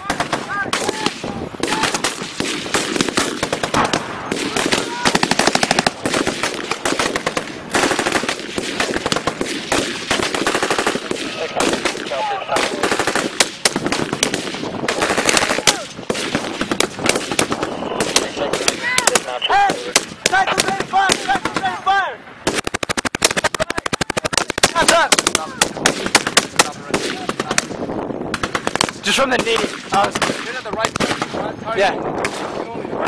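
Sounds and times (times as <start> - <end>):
rifles firing rapid shots: 0.0 - 21.8, 22.4 - 31.5, 32.2 - 32.6.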